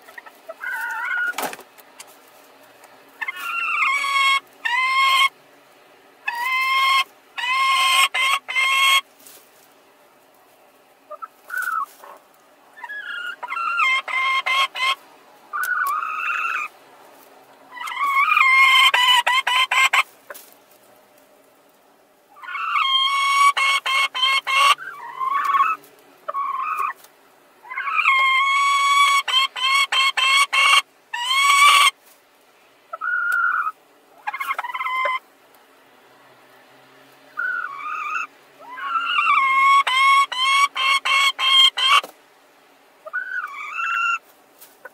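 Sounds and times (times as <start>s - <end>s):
hens squawking and clucking: 0.0s - 32.2s, 32.8s - 44.9s.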